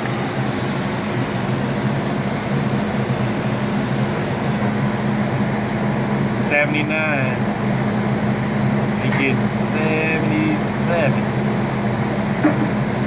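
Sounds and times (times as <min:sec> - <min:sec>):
compressor humming: 0:00.0 - 0:13.0
condenser fan air rushing: 0:00.0 - 0:13.0.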